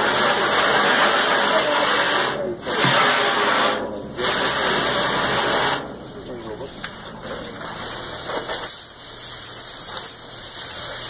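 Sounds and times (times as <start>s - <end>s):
hose water spraying on table: 0.0s - 6.0s, 7.3s - 11.0s.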